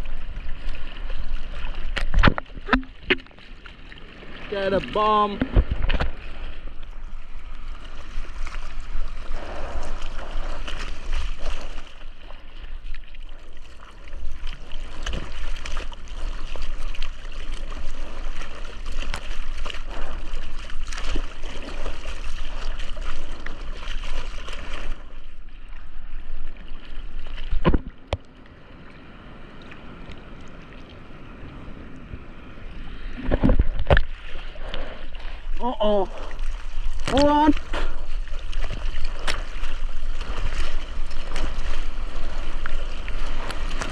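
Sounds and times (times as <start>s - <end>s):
ocean water rushing and splashing: 0.0s - 43.9s.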